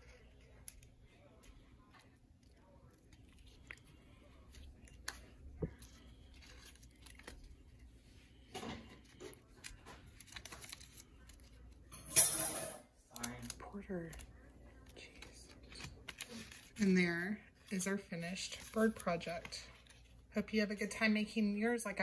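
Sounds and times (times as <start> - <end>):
paper rustling and crinkling: 0.0 - 11.9, 13.2 - 20.9.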